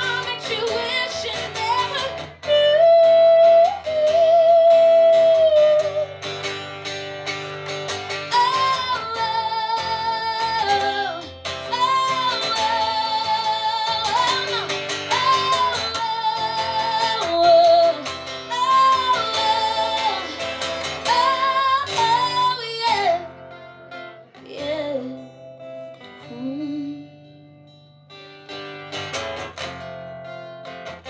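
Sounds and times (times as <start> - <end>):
guitar: 0.0 - 31.0.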